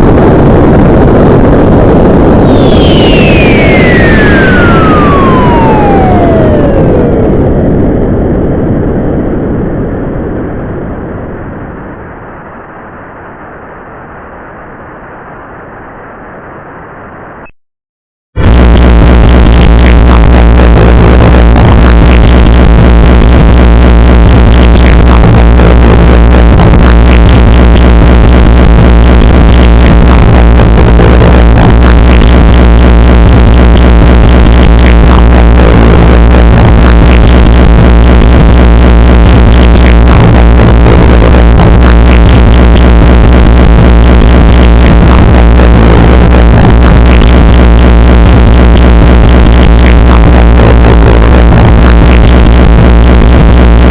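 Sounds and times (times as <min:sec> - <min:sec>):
synthesized electronic drone: 0:00.0 - 0:08.1, 0:18.4 - 0:53.9.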